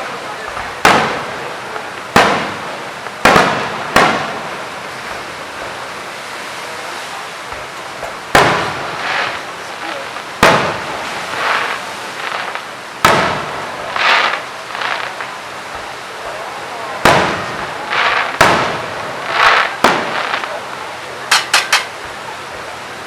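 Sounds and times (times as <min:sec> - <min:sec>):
fireworks bursting with loud bangs: 0:00.0 - 0:23.0
hissing crackle: 0:00.0 - 0:23.0.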